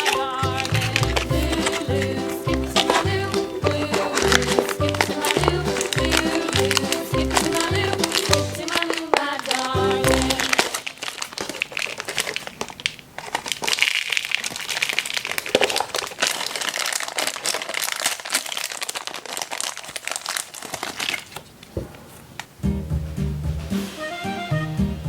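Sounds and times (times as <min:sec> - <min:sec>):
packaging crackling and rustling: 0:00.0 - 0:22.6.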